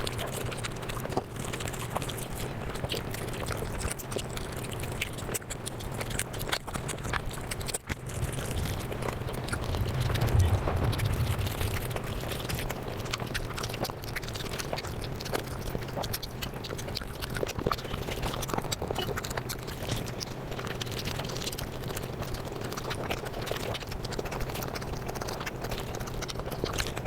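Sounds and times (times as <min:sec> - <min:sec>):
sped-up chewing sounds: 0:00.0 - 0:12.7, 0:13.3 - 0:27.0.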